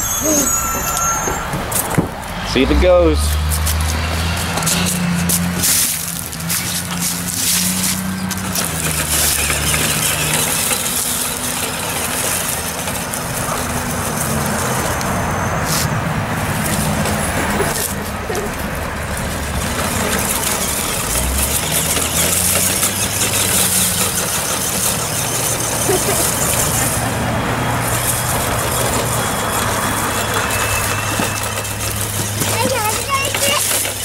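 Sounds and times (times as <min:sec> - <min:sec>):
toy truck electric motor whirring: 0:03.3 - 0:34.0.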